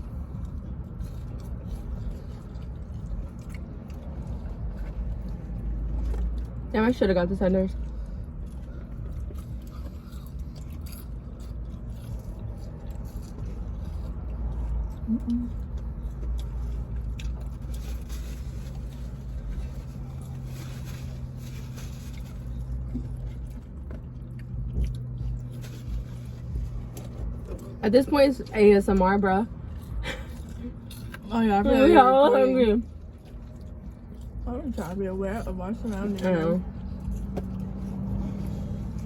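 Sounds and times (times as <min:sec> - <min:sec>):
chewing crispy food: 0:00.0 - 0:27.8, 0:28.4 - 0:39.0
low steady hum: 0:00.0 - 0:39.0.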